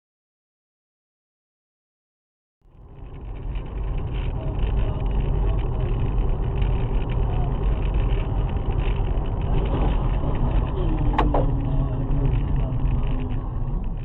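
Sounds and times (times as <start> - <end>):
car engine and road noise: 2.6 - 14.0.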